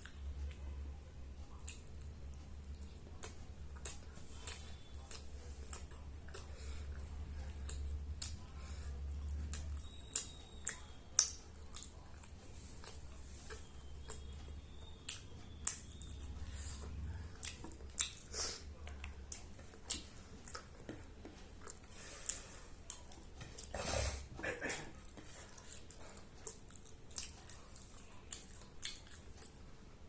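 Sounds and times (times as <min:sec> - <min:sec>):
chewing with wet mouth smacks: 0:01.5 - 0:23.8, 0:24.9 - 0:29.7.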